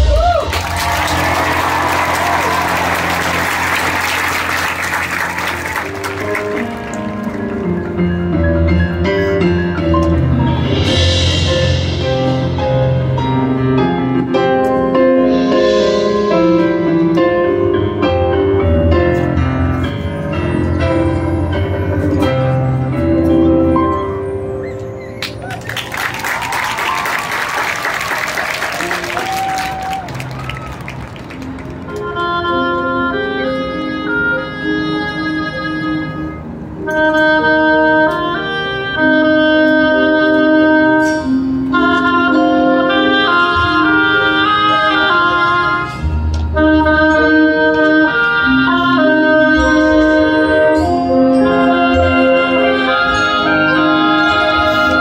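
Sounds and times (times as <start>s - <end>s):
marching band playing chords: 0.0s - 23.6s, 25.7s - 55.0s.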